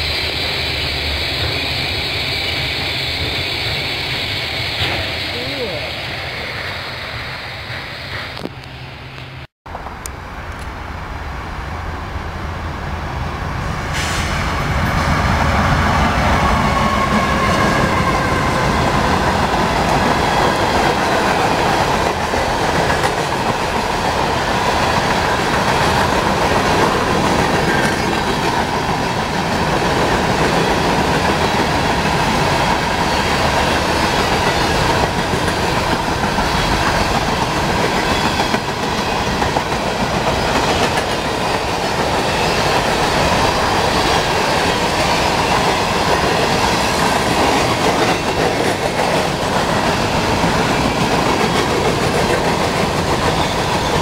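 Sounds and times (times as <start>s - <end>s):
train wheels clickety-clack on rail: 0.0s - 5.8s, 13.7s - 54.0s.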